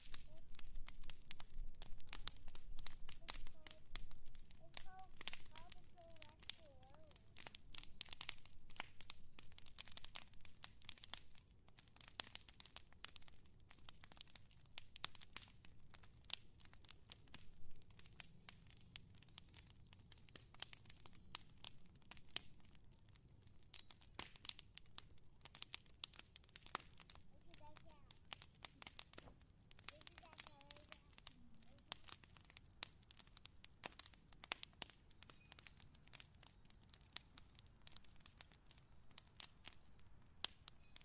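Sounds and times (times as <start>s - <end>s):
fire crackling: 0.0s - 41.0s.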